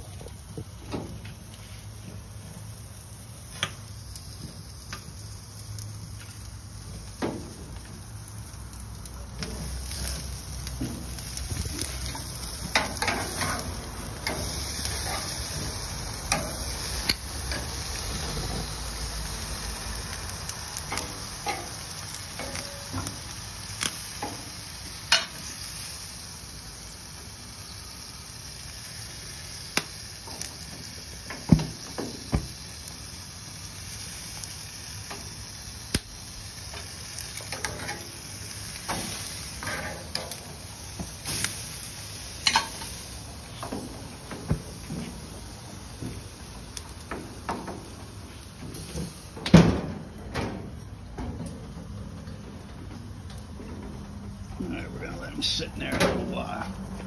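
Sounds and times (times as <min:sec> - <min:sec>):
food sizzling on grill: 0:00.0 - 0:51.4, 0:53.1 - 0:57.0.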